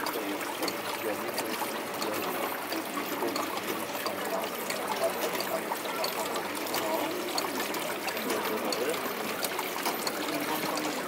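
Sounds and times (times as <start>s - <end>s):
faint voices: 0.0s - 11.0s
water trickling: 0.0s - 11.0s.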